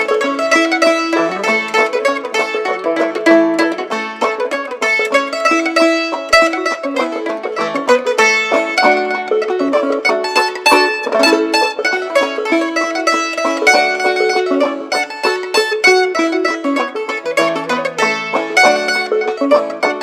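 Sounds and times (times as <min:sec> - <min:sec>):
banjo: 0:00.0 - 0:20.0
mandolin: 0:00.0 - 0:20.0.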